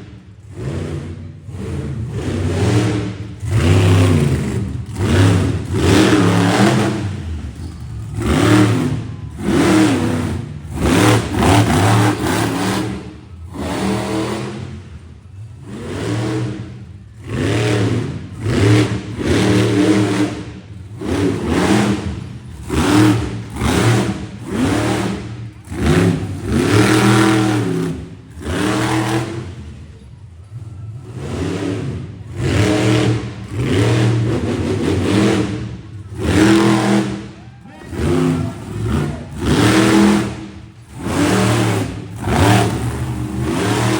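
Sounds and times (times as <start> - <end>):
monster truck engine revving: 0.0 - 43.9.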